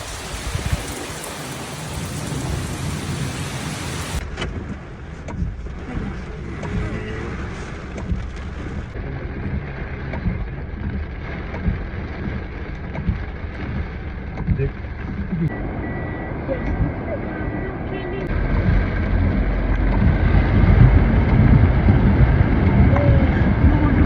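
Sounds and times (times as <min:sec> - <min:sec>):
continuous low rumble: 0:00.0 - 0:24.0
heavy rain falling: 0:00.0 - 0:24.0.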